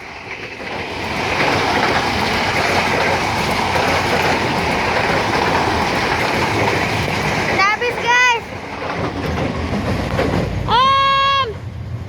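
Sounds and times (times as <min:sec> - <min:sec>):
train passing at speed: 0:00.0 - 0:12.0
wheels clickety-clack on rails: 0:00.0 - 0:12.0.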